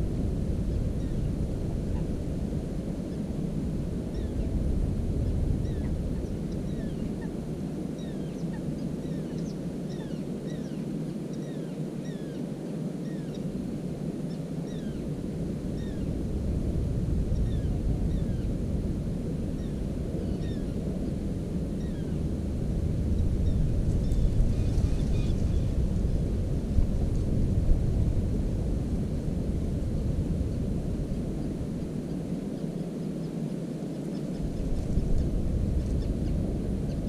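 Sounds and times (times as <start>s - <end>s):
steady low rumble: 0.0s - 9.6s, 14.8s - 33.0s, 34.3s - 37.0s.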